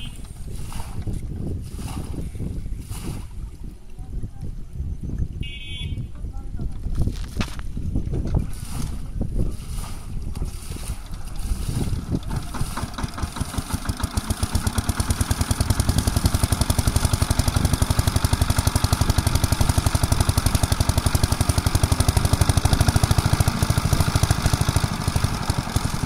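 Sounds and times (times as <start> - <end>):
small water pump engine chugging: 0.0 - 4.0, 8.4 - 26.0.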